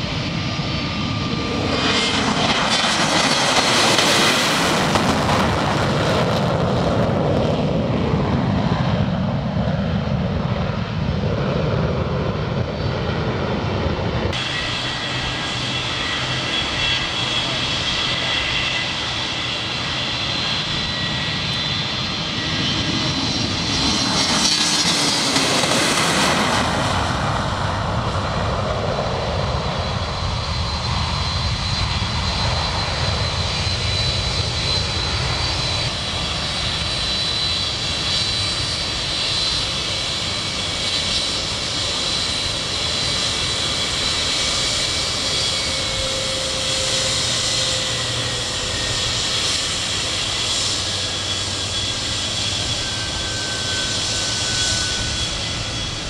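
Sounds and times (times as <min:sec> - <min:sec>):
high jet engine whine: 0:00.0 - 0:56.0
jet airliner engines roaring: 0:00.0 - 0:56.0.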